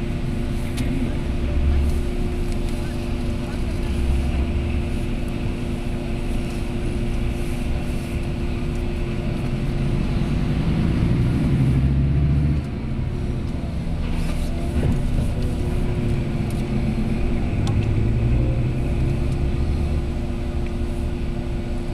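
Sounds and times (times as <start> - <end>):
bus diesel engine droning: 0.0 - 21.9.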